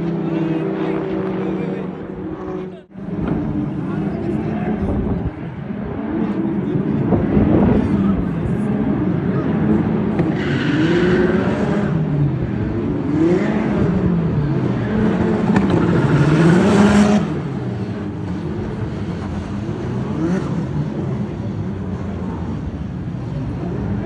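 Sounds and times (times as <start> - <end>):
race car engines passing: 0.0 - 24.0.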